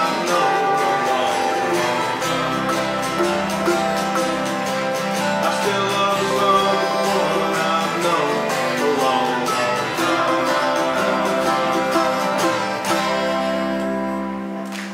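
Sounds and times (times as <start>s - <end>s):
acoustic guitar country tune: 0.0s - 14.9s.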